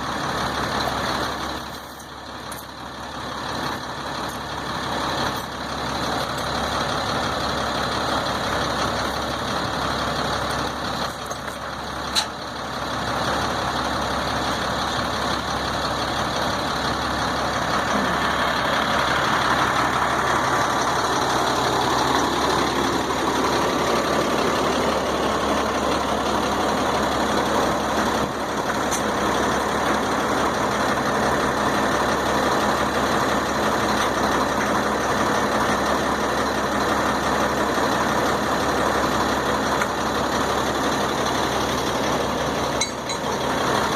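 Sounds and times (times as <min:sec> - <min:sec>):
heavy engine idling: 0:00.0 - 0:43.9.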